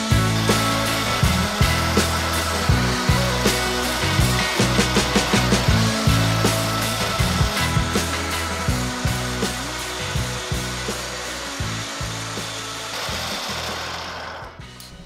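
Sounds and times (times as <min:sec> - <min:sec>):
shredder motor humming: 0:00.0 - 0:14.6.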